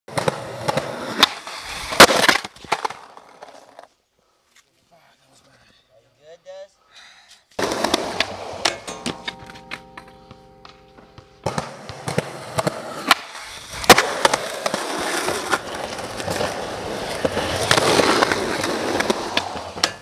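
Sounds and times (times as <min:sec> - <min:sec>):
skateboard clacks: 0:00.1 - 0:03.8, 0:07.6 - 0:20.0
skateboard wheels rolling on asphalt: 0:00.1 - 0:04.1, 0:07.5 - 0:20.0.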